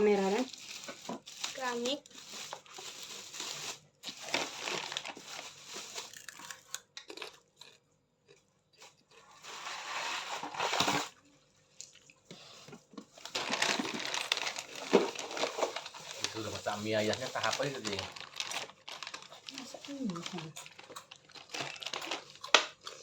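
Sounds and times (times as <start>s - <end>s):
packaging crinkling and rustling: 0.0s - 7.8s, 8.8s - 11.2s, 12.5s - 23.0s.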